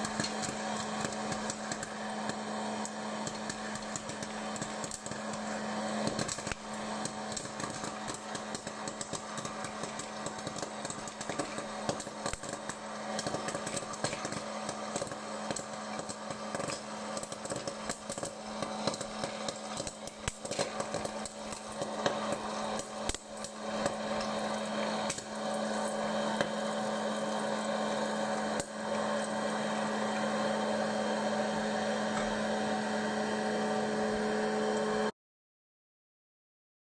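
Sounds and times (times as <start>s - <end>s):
popcorn kernels popping: 0.0s - 32.7s
popcorn maker fan humming: 0.0s - 35.1s.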